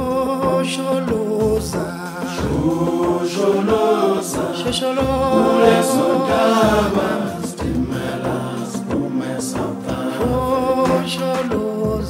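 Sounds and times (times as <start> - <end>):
a cappella group singing: 0.0 - 12.0.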